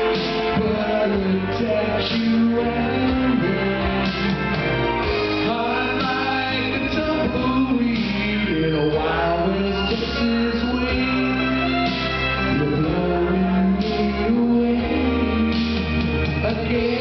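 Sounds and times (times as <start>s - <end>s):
country band playing live: 0.0s - 17.0s.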